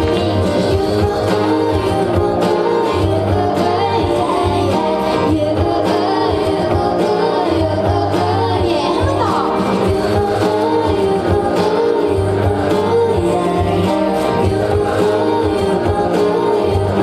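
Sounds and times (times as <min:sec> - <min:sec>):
live band playing pop: 0:00.0 - 0:17.0
female vocal singing: 0:00.7 - 0:17.0.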